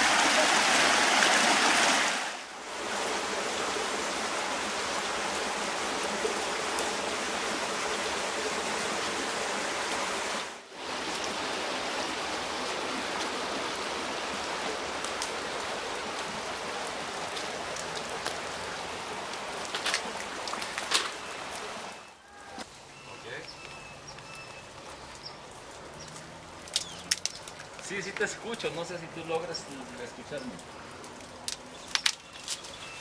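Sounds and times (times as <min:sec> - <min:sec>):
stream water running over rocks: 0:00.0 - 0:33.0.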